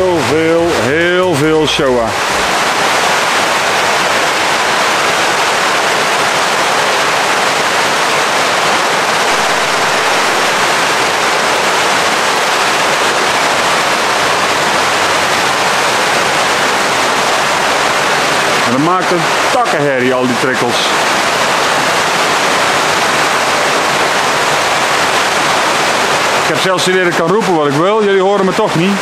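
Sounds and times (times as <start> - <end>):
water pouring and splashing: 0.0 - 29.0.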